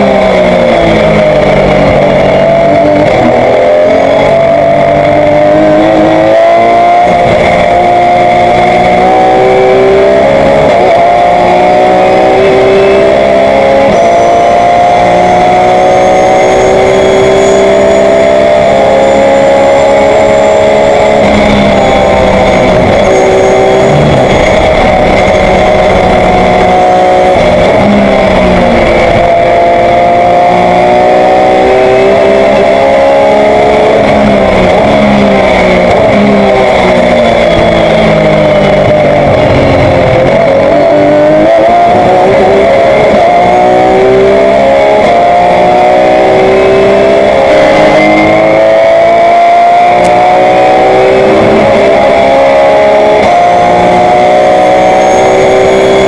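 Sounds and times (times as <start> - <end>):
race car engine revving: 0.0 - 56.0
steady high whine: 0.0 - 56.0.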